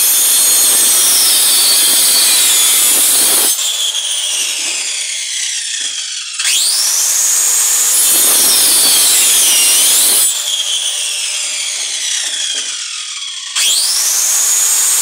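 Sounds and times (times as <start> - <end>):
circular saw cutting wood: 0.0 - 15.0.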